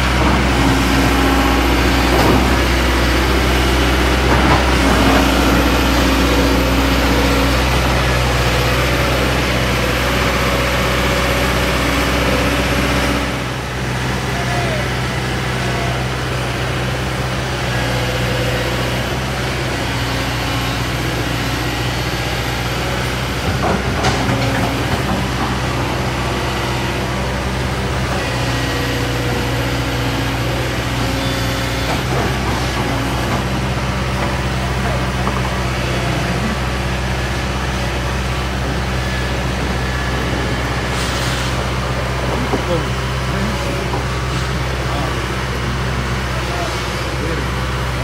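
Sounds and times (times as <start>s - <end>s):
diesel engine idling: 0.0s - 48.0s
roadside noise: 0.0s - 48.0s.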